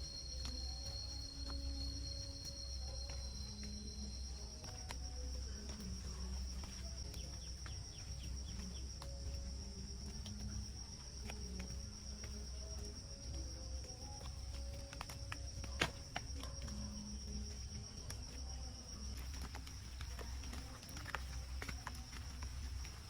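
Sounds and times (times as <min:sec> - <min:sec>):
insects droning high-pitched: 0:00.0 - 0:23.0.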